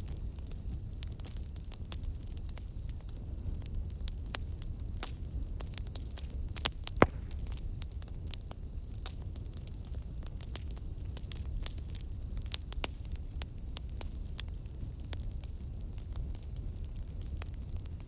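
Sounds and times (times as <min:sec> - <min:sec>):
sharp pops of fire: 0:00.0 - 0:18.0
wood fire crackling: 0:00.0 - 0:18.0.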